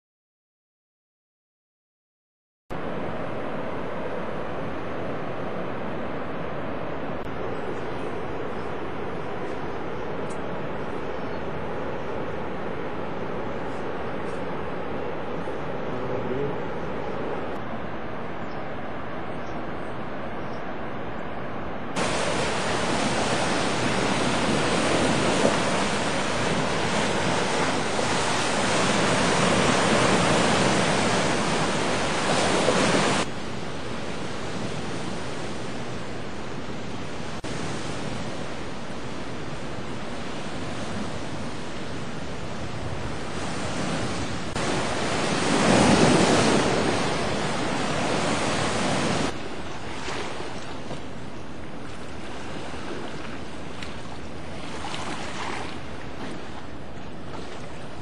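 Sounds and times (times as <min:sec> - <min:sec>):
river current rushing: 0:02.8 - 0:58.0
wind on microphone: 0:02.8 - 0:58.0.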